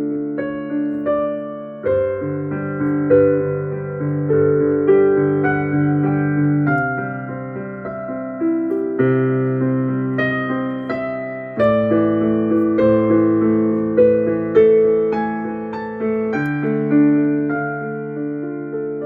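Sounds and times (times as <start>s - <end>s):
slow electric piano chords: 0.0s - 19.0s.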